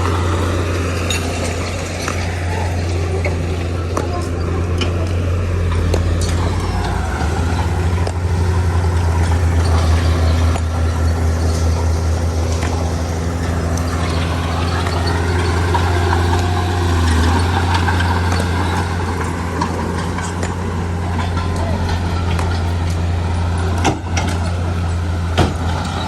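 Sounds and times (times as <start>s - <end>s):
heavy diesel machinery engine: 0.0s - 26.0s.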